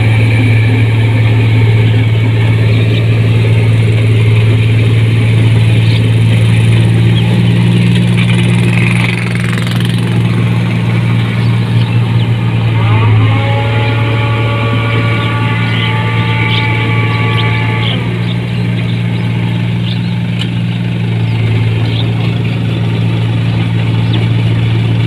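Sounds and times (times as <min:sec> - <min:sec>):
combine harvester engine hum: 0:00.0 - 0:25.0
high-pitched whine: 0:00.0 - 0:25.0.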